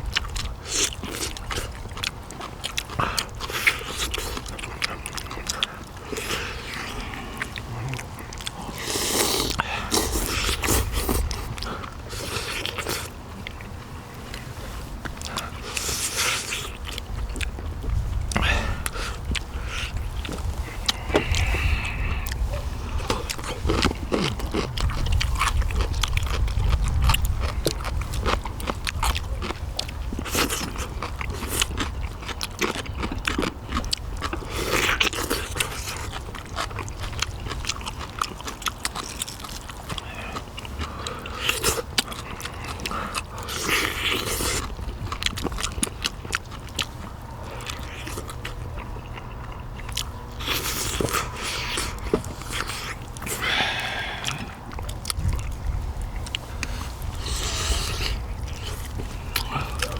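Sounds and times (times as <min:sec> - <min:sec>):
person chewing meat off bones: 0:00.0 - 0:59.9.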